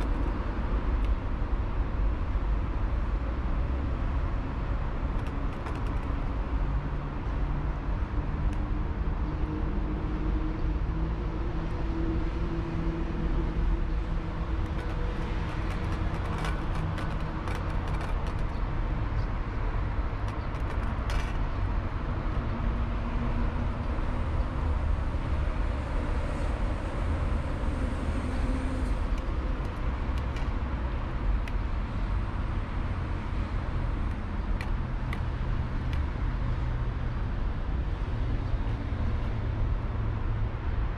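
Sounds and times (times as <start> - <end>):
city traffic rumble: 0.0 - 40.9.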